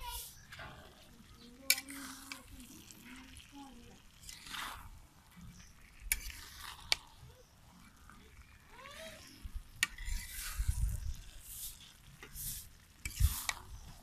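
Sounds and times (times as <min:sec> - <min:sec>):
faint sizzle: 0:00.0 - 0:14.0
metal ladle scraping a wok: 0:00.1 - 0:07.2, 0:08.4 - 0:13.9.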